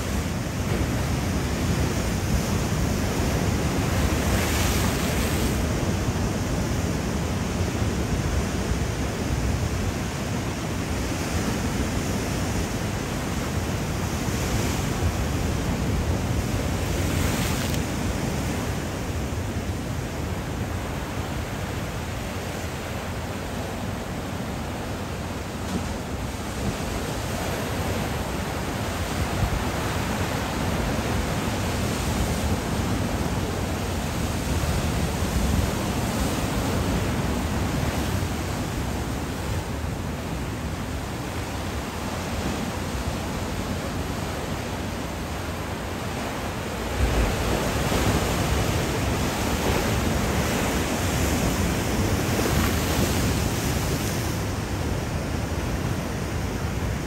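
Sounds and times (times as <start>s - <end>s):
ocean surf washing: 0.0s - 57.0s.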